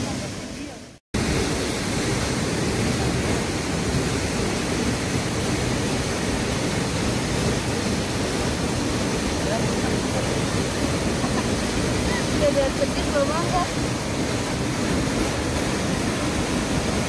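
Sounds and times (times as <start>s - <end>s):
waterfall pouring onto rocks: 0.0s - 17.0s.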